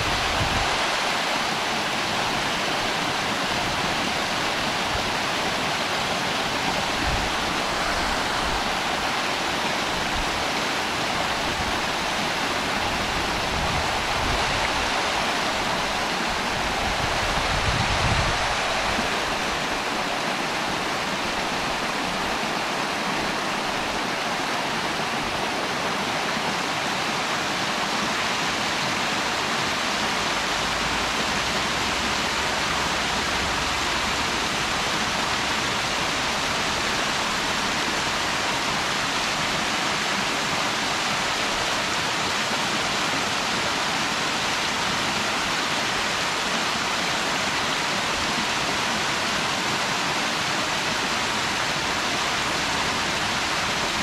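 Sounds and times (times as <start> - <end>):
water rushing over falls: 0.0 - 54.0.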